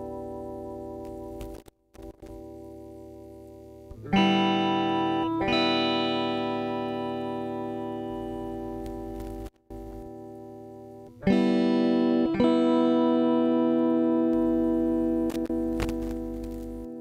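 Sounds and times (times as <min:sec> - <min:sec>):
electric guitar chords: 0:00.0 - 0:17.0.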